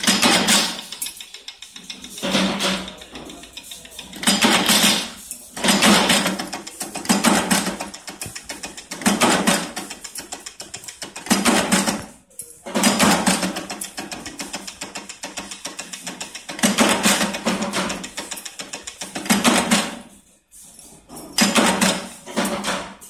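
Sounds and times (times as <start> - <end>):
stamping press clattering: 0.0 - 20.2, 21.2 - 23.0.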